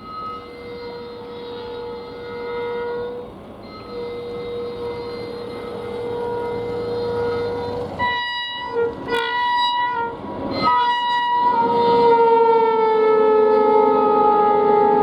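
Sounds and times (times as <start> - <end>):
locomotive horn blasts: 0.0 - 15.0.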